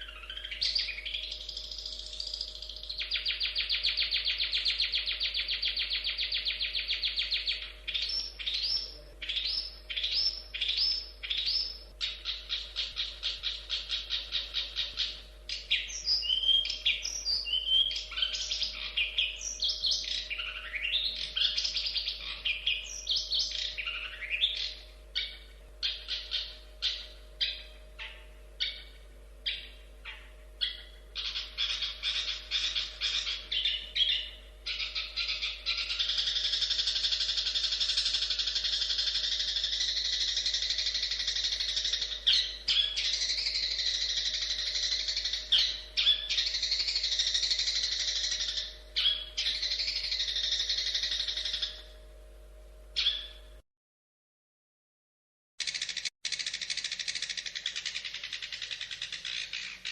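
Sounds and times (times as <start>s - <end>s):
bird singing whistled phrases: 0.0s - 51.9s, 53.0s - 53.5s
bird chattering warble: 0.0s - 52.0s, 53.0s - 53.5s, 55.6s - 59.9s
faint steady hum: 0.0s - 53.6s.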